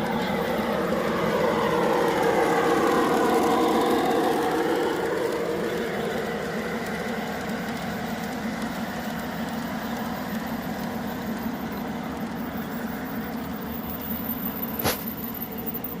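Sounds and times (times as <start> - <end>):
model train motor humming: 0.0 - 16.0.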